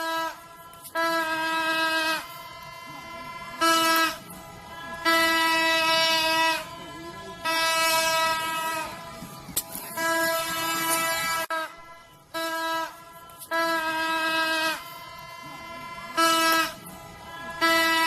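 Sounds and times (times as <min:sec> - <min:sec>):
trumpet horn blasts: 0:00.0 - 0:18.0.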